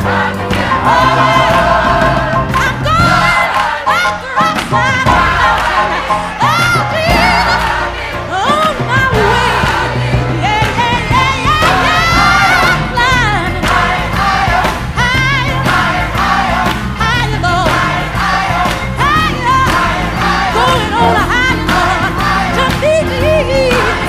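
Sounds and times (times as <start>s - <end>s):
song with singing and beat: 0.0s - 24.0s.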